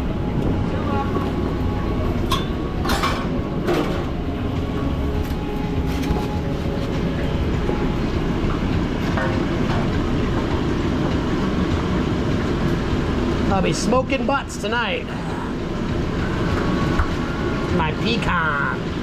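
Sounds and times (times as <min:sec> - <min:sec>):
low machine rumble: 0:00.0 - 0:19.0.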